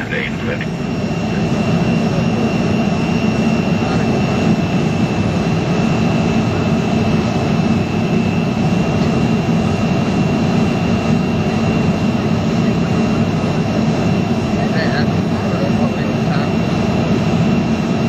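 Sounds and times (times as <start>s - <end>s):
jet engine roar in cabin: 0.0s - 18.0s.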